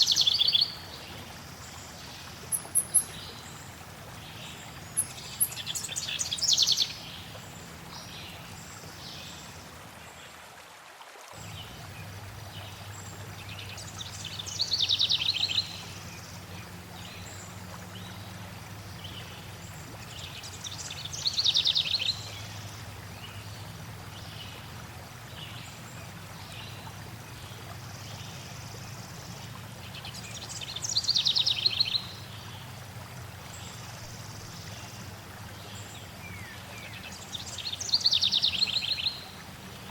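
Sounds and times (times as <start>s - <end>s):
songbird singing: 0.0s - 9.7s, 11.4s - 24.6s, 25.3s - 32.7s, 33.6s - 39.9s
flowing water: 0.0s - 39.9s.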